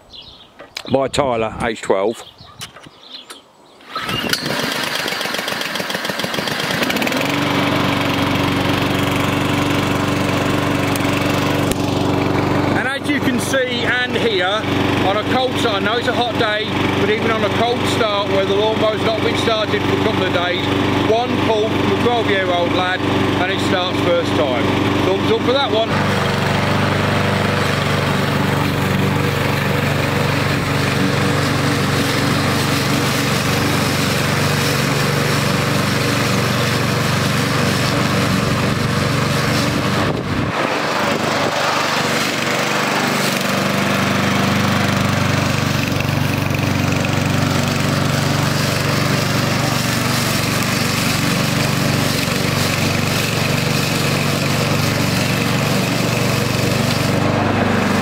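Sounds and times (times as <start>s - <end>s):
lawnmower engine cutting grass: 3.8s - 58.0s.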